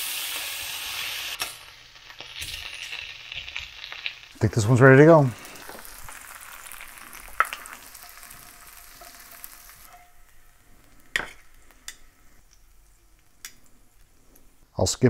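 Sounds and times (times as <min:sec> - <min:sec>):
burger sizzling in a frying pan: 0:00.0 - 0:14.2.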